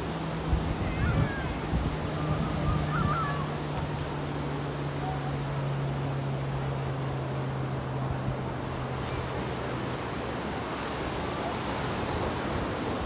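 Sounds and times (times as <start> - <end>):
surf breaking on beach: 0.0 - 13.0.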